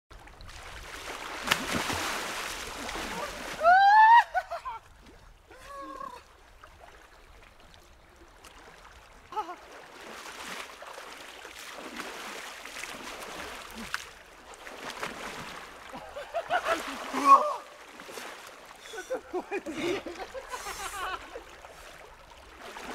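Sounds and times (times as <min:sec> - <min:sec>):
splashing in river: 0:00.2 - 0:22.9.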